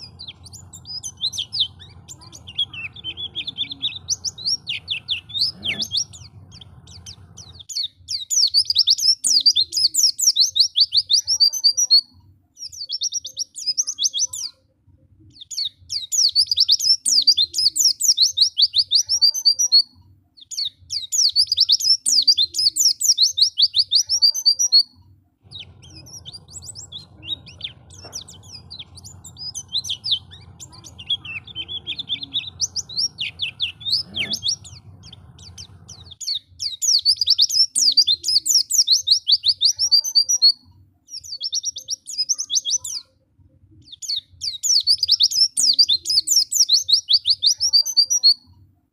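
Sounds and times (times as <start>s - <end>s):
bird high twittering: 0.0s - 14.6s, 15.3s - 43.1s, 43.9s - 48.4s
faint low hum: 0.0s - 46.2s.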